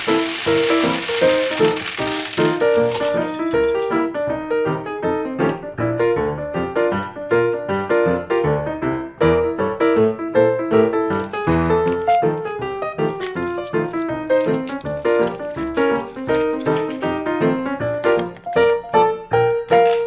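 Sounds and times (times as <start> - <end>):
light piano-like keyboard tune: 0.0 - 20.0.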